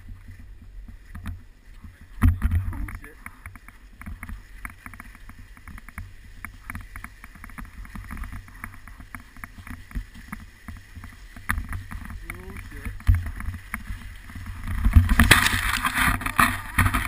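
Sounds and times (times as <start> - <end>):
skis scraping over crusted snow: 0.0 - 17.0
wind rumble on microphone: 0.0 - 17.0.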